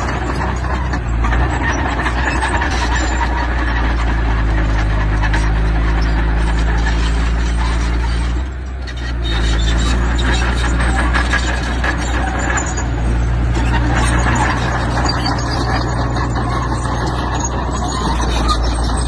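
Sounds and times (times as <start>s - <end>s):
bulldozer engine running: 0.0s - 19.0s
metallic clanking of tracks: 0.0s - 19.0s.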